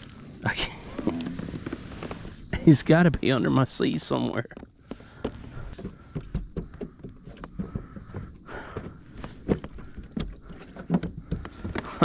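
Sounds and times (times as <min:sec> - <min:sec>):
knocks and scraping in a kayak: 0:00.2 - 0:03.4, 0:04.1 - 0:12.0.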